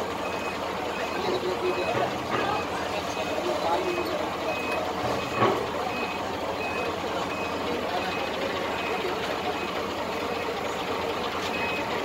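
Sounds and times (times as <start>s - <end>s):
diesel engine running: 0.0s - 12.0s
murmur of crowd: 0.0s - 12.0s
reversing alarm beeps: 0.2s - 10.6s, 11.4s - 12.0s.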